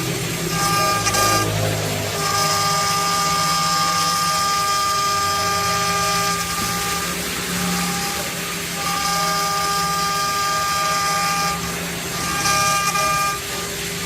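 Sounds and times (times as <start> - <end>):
lathe machine running: 0.0 - 14.0
stepper motor whine: 0.0 - 14.0.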